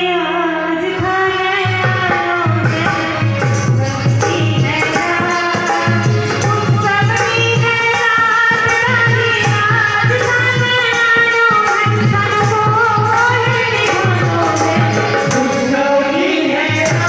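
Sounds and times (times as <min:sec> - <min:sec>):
keyboard accompaniment: 0:00.0 - 0:17.0
woman singing into microphone: 0:00.0 - 0:17.0.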